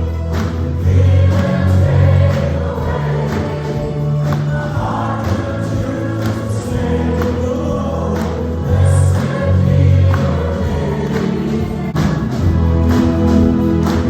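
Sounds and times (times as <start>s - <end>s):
choir singing worship music: 0.0s - 14.0s.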